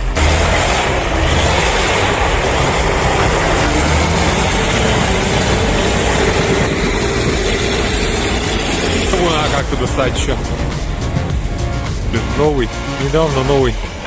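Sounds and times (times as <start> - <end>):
heavy vehicle engine straining: 0.0 - 14.0.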